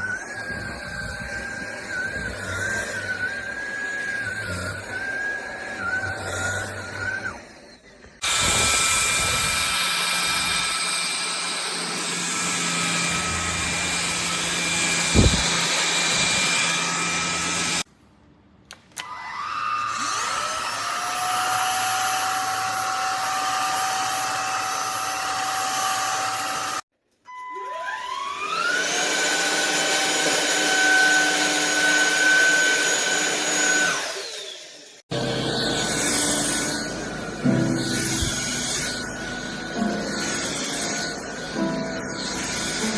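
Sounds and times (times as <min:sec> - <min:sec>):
stick vacuum motor whine: 0:00.0 - 0:17.9, 0:18.9 - 0:26.9, 0:27.6 - 0:42.9.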